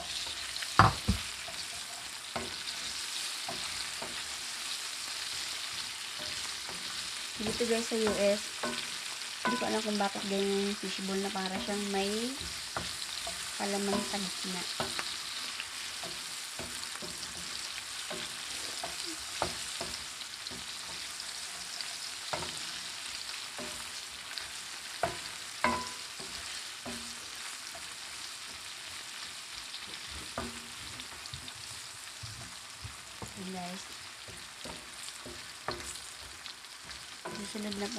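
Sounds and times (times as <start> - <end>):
food sizzling in hot oil: 0.0 - 37.9
spatula scraping pan: 0.0 - 37.9.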